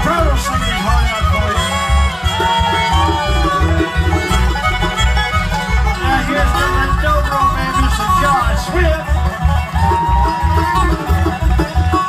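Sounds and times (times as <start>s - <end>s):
banjo: 0.0s - 12.0s
bluegrass band playing: 0.0s - 12.0s
fiddle: 0.0s - 12.0s.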